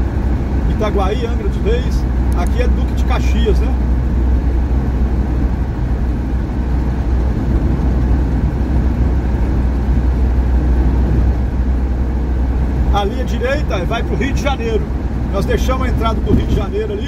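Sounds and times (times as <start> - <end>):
vehicle engine and tyre noise: 0.0 - 17.0.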